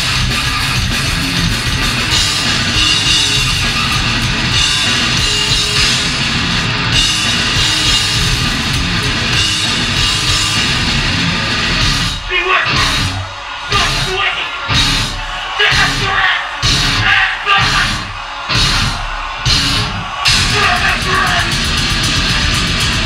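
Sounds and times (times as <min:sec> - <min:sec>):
grindcore band playing live: 0:00.0 - 0:23.0.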